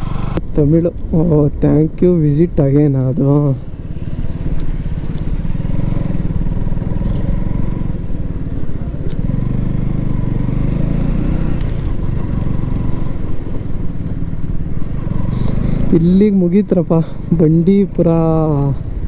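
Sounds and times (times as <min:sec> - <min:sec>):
motorcycle engine running: 0:00.0 - 0:01.5, 0:03.2 - 0:19.0.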